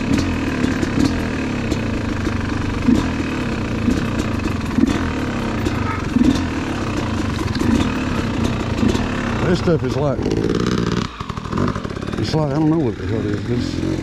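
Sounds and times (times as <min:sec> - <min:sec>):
dirt bike engine at low revs: 0:00.0 - 0:14.0
knocks and rattles over bumps: 0:00.0 - 0:14.0.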